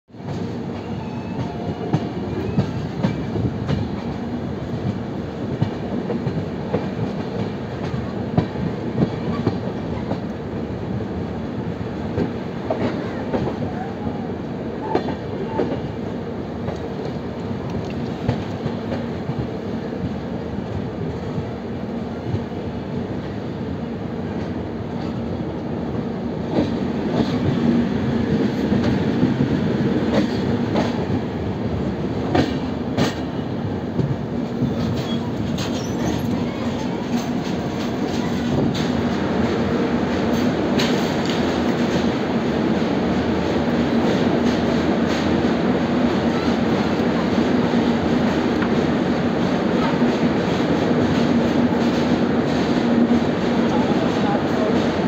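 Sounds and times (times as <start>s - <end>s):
train wheels rumbling on rail: 0.1s - 55.0s.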